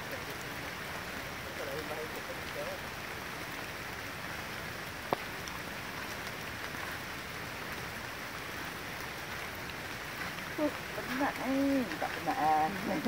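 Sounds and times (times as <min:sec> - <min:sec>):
forest background hiss: 0:00.0 - 0:13.0.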